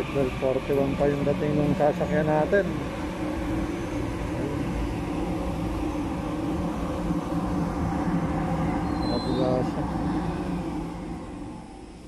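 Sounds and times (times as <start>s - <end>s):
low hum: 0.0s - 12.0s
train running rumble: 0.0s - 12.0s.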